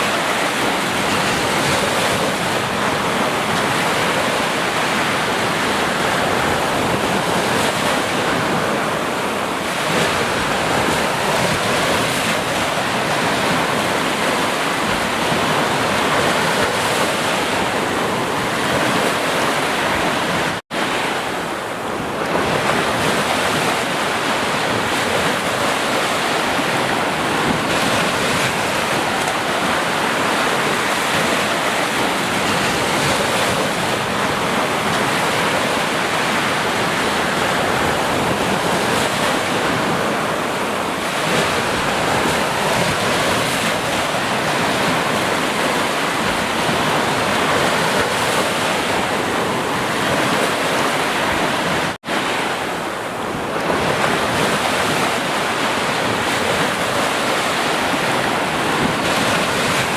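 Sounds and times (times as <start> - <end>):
sea surf waves: 0.0 - 59.9.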